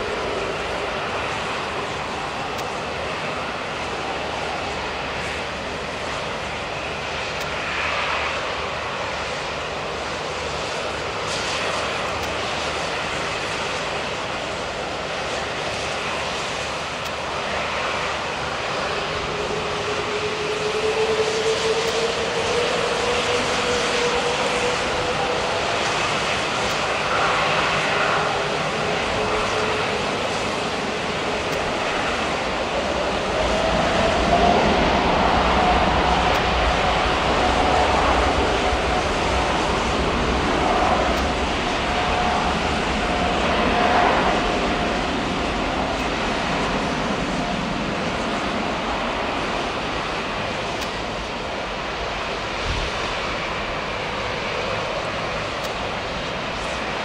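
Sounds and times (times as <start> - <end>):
jet engines spooling up: 0.0 - 57.0
rising engine whine: 0.0 - 57.0.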